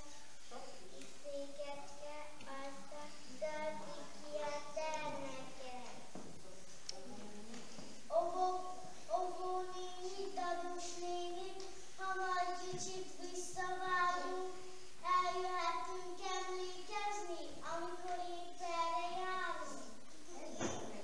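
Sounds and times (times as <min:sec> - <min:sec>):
child singing: 0:00.0 - 0:06.0, 0:08.1 - 0:20.8.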